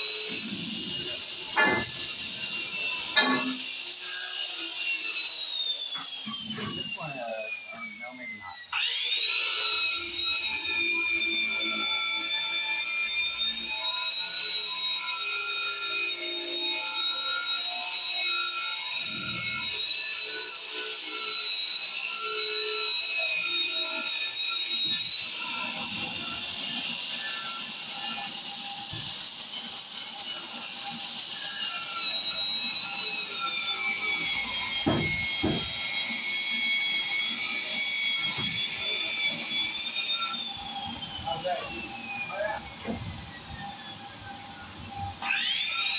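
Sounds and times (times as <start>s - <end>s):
angle grinder wire brush whine: 0.0s - 45.9s.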